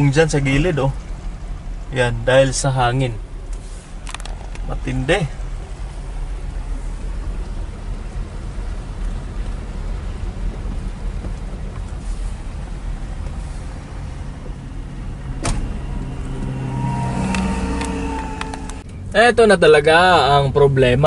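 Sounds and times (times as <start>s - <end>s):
car rumbling: 0.0s - 21.0s.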